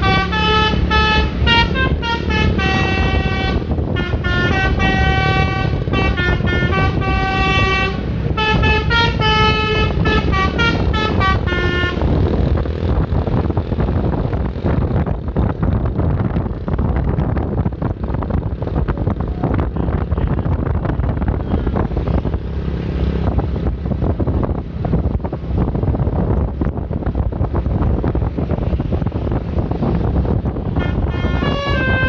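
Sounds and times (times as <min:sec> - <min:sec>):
road traffic rumble: 0:00.0 - 0:32.0
wind buffeting microphone: 0:00.0 - 0:32.0.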